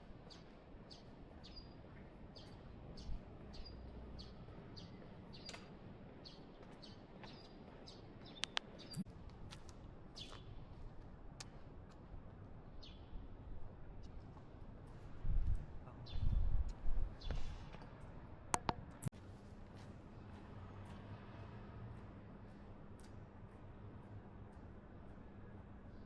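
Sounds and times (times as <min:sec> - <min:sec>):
faint outdoor background noise: 0:00.0 - 0:26.0.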